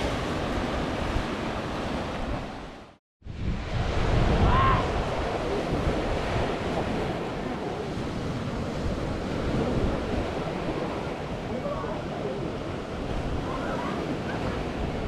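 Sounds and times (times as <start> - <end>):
surf breaking waves: 0.0 - 15.0
wind rumbling on microphone: 0.0 - 15.0.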